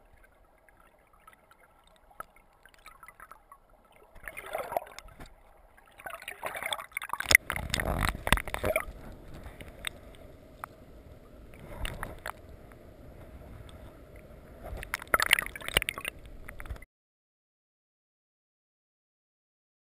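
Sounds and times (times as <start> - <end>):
water sloshing and gurgling: 0.0 - 16.8.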